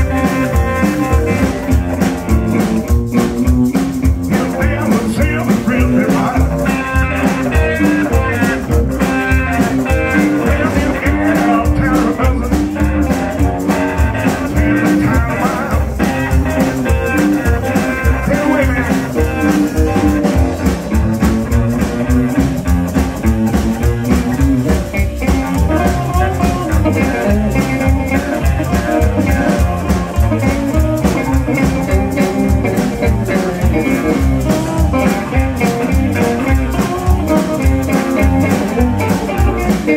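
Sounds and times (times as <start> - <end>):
blues band playing: 0.0 - 39.9
electric guitars: 0.0 - 39.9
upright bass: 0.0 - 39.9.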